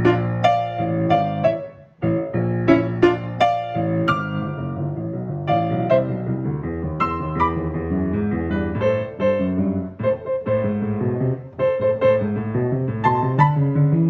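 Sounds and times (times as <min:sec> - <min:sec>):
piano chords and notes: 0:00.0 - 0:14.0.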